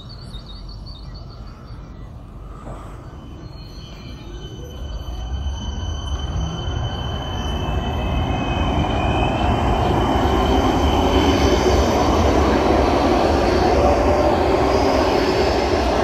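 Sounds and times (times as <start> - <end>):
electric train passing: 0.0 - 16.0
thin high steady tones: 3.0 - 16.0.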